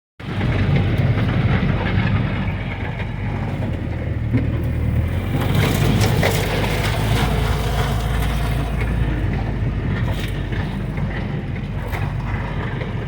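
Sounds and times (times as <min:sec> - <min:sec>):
engine rumbling: 0:00.2 - 0:13.0.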